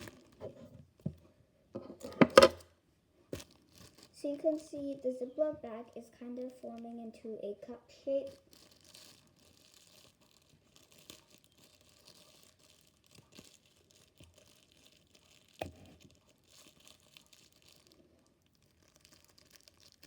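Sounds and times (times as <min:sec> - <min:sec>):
plastic bag rustling: 0:00.0 - 0:00.7, 0:03.3 - 0:07.2, 0:08.1 - 0:20.0.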